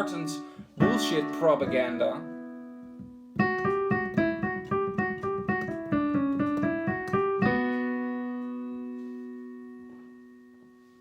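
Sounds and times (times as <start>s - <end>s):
piano playing: 0.0s - 11.0s.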